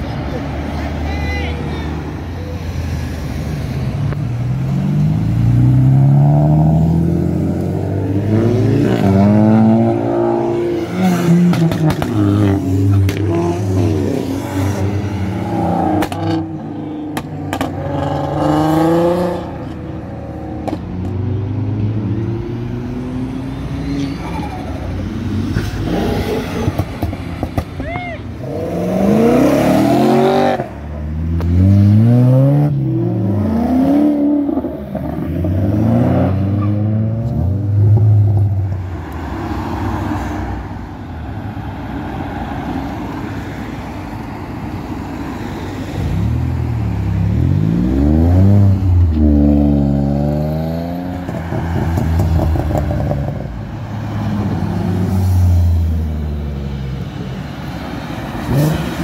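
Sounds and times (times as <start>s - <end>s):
cars revving and pulling away: 0.0s - 59.0s.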